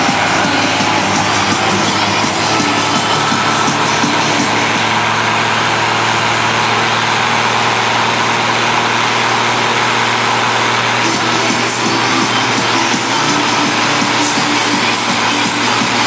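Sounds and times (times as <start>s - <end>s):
tractor engine running loudly: 0.0s - 16.0s.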